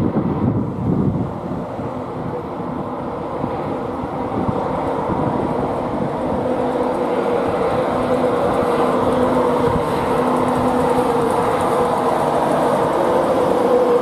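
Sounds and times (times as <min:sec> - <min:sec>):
steady humming note: 0:00.0 - 0:14.0
train rumbling: 0:00.0 - 0:14.0.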